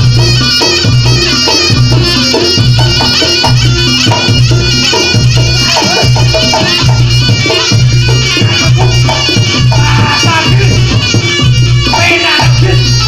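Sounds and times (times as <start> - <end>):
drums: 0.0 - 13.0
shrill shawm melody: 0.0 - 13.0.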